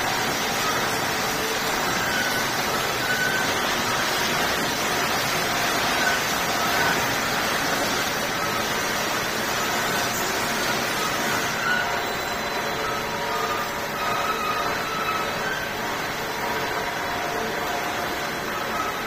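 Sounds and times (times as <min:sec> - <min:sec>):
film processing machine running: 0:00.0 - 0:19.0.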